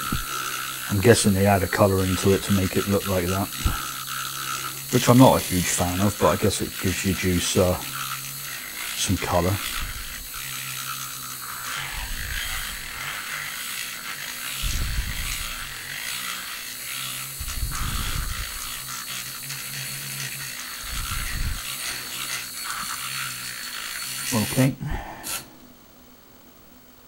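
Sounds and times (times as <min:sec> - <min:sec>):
milk frother buzzing: 0:00.0 - 0:25.6.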